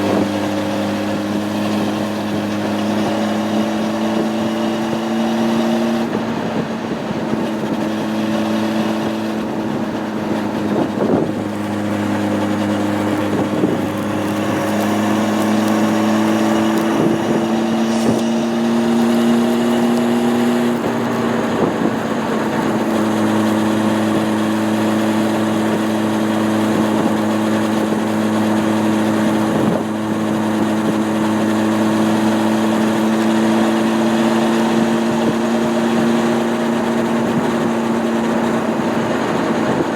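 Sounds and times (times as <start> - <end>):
motorcycle engine running: 0.0 - 39.9
wind rushing past microphone: 0.0 - 39.9.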